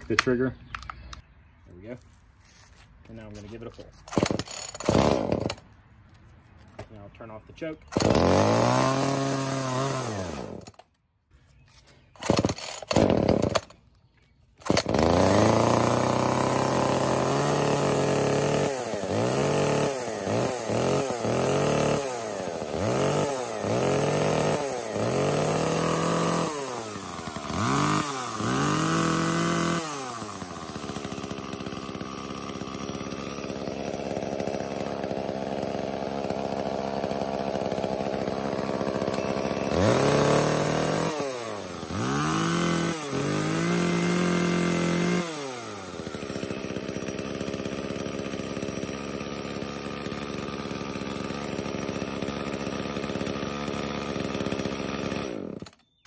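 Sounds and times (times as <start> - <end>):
chainsaw engine revving and idling: 3.1 - 5.7, 6.7 - 10.9, 12.2 - 13.8, 14.6 - 56.0.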